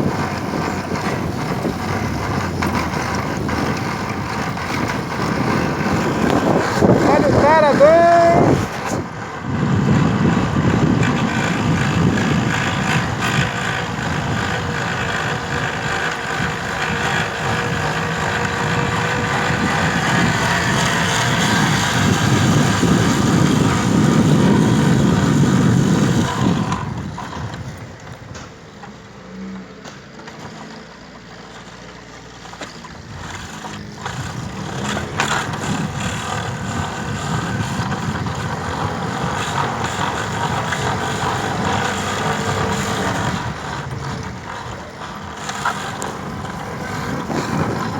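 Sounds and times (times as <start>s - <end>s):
motorcycle engine running: 0.0s - 29.1s, 29.8s - 47.9s.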